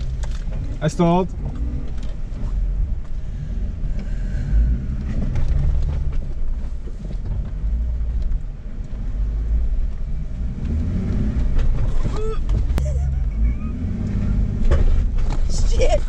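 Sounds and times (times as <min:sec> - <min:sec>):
vehicle engine rumble from inside: 0:00.0 - 0:16.0.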